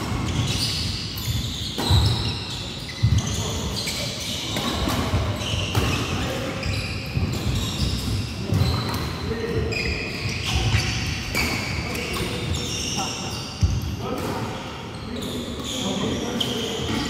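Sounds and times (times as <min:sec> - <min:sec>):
shoes squeaking on wooden floor: 0:00.0 - 0:13.8.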